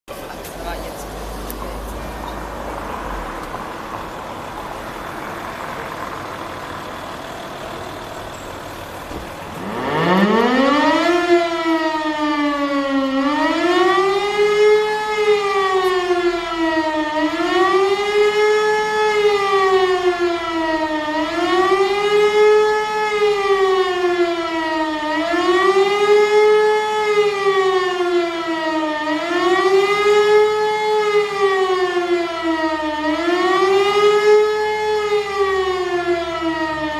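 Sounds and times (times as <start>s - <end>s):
civil defence siren wailing: 0.4s - 36.9s.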